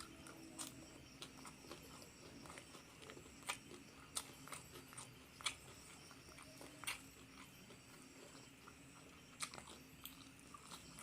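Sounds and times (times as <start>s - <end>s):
close-miked chewing: 0.0s - 11.0s.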